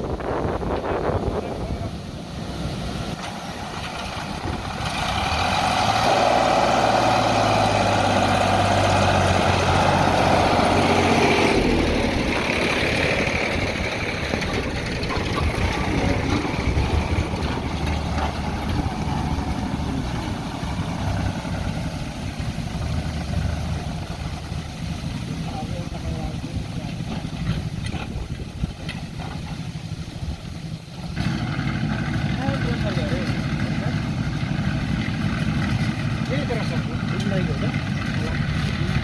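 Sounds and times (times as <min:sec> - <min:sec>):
diesel engine of heavy machinery: 0:00.0 - 0:39.0
mid-pitched engine whine: 0:00.0 - 0:39.0.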